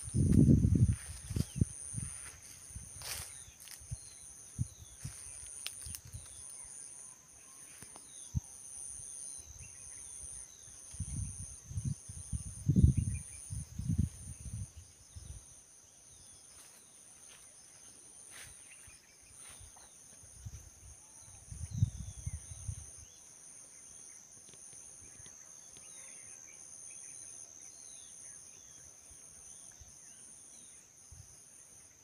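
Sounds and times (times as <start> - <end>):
pulsing higher insect call: 0.0 - 32.0.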